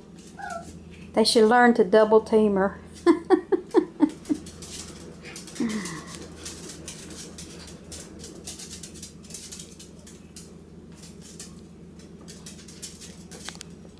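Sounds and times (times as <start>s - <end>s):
claws and paws on tiled floor: 0.0s - 1.6s, 2.9s - 13.9s
steady low hum: 0.0s - 13.9s.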